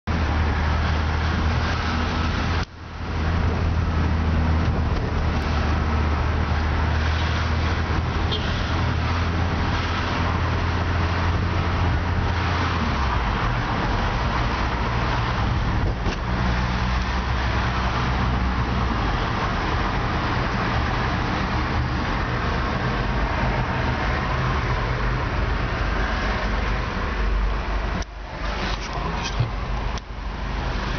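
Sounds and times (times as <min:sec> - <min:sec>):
tyre and traffic noise: 0:00.0 - 0:30.9
vehicle engine hum: 0:00.0 - 0:30.9.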